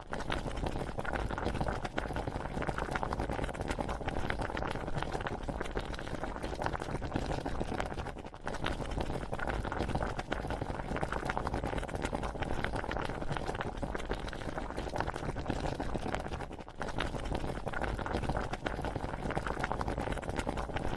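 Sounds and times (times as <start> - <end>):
water boiling in a pot: 0.0 - 20.9.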